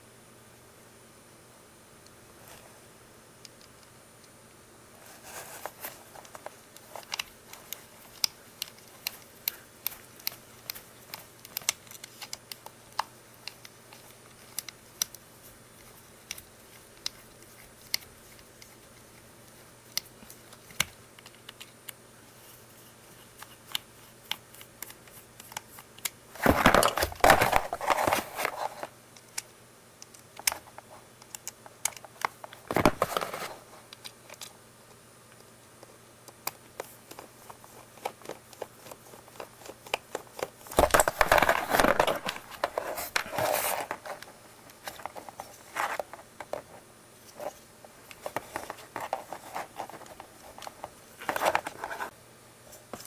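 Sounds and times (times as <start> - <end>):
rustling and crinkling: 4.9 - 29.4, 30.4 - 35.0, 36.7 - 53.0.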